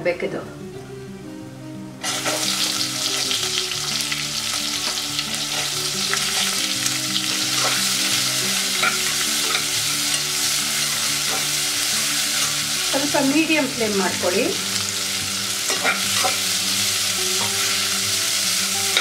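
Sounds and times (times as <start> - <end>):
onions sizzling in hot fat: 2.0 - 19.0.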